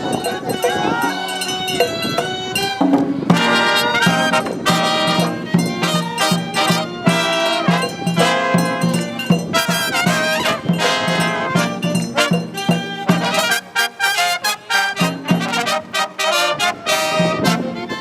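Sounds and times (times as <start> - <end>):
marching brass band playing: 3.2 - 18.0.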